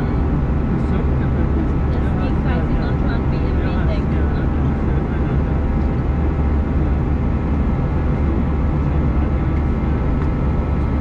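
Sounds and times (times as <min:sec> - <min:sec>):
aircraft engine drone and airflow: 0:00.0 - 0:11.0.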